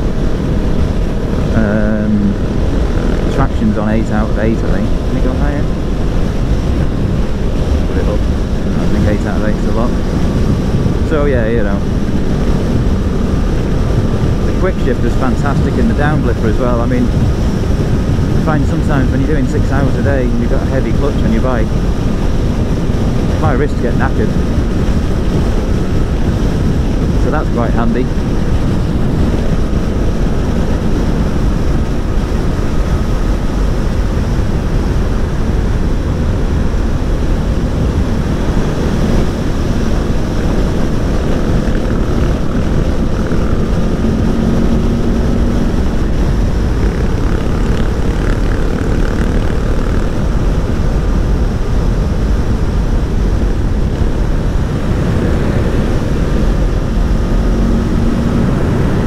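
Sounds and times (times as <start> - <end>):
motorcycle engine drone: 0.0 - 59.0
wind rushing over microphone: 0.0 - 59.0.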